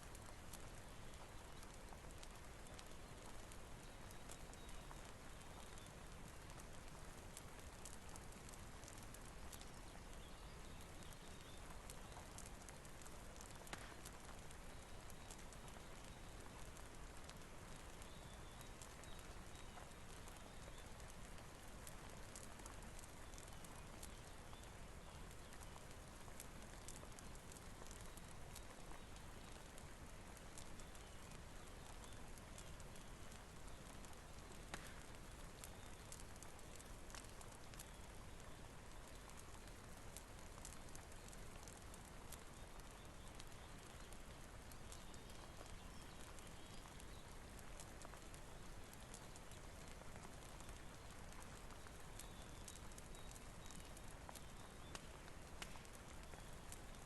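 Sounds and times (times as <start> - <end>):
fireplace crackling: 0.0 - 57.0
small sharp clicks: 7.6 - 24.6, 26.4 - 29.8, 30.4 - 48.3, 48.9 - 56.9.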